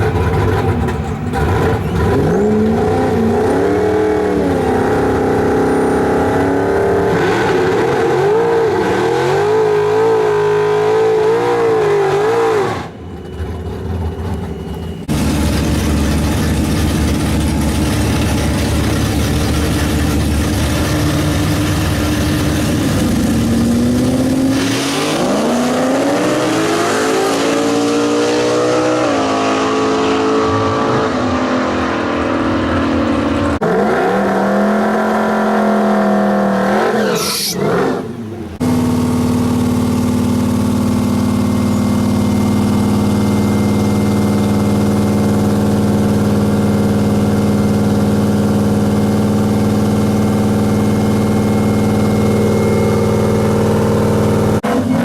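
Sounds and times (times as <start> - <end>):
racing engines revving: 0.0 - 55.0.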